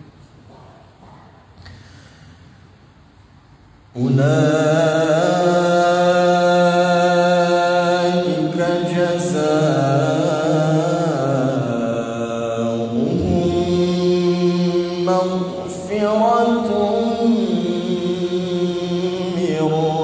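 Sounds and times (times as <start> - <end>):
man reciting melodically: 4.0 - 20.0.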